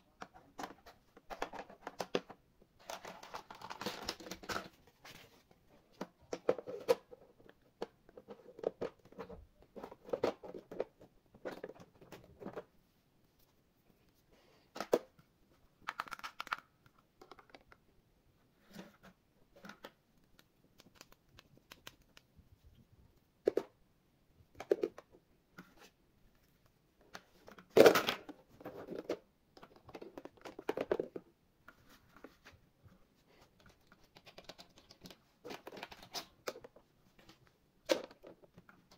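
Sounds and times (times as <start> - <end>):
crinkling and scraping: 0.1 - 23.8, 24.5 - 38.9.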